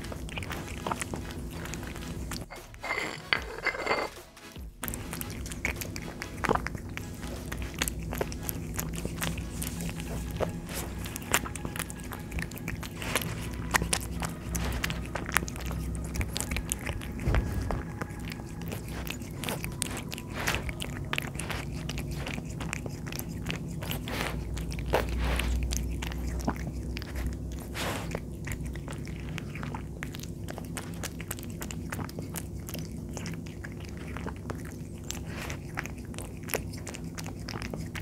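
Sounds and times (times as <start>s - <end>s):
cat chewing wet food: 0.0s - 4.0s, 4.6s - 38.0s.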